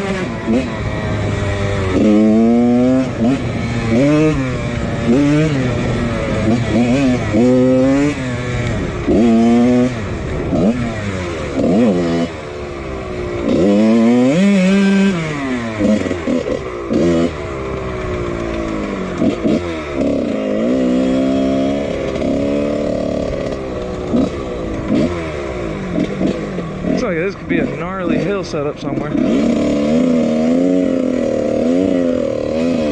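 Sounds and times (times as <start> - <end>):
two-stroke dirt bike engine revving: 0.0 - 32.9.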